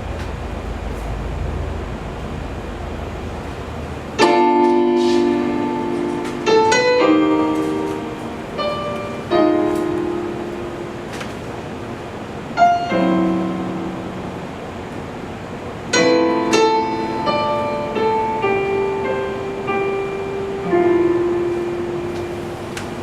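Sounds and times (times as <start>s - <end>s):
low rumbling noise: 0.0s - 23.0s
piano chords and notes: 0.0s - 23.0s.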